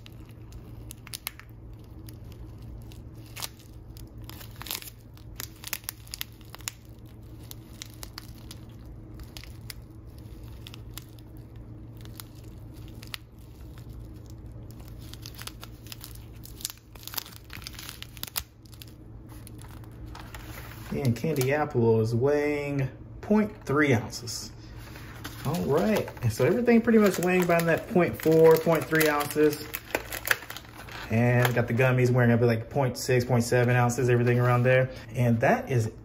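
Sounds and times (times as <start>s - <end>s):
plastic bag crinkling: 0.0s - 21.5s, 24.7s - 32.1s
steady low hum: 0.0s - 36.0s.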